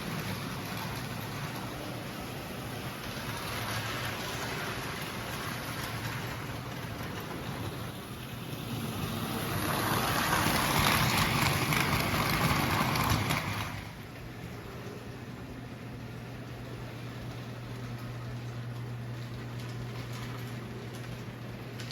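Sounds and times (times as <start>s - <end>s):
toy train rolling on track: 0.0s - 14.6s, 18.0s - 21.9s
steady low hum: 0.0s - 21.9s.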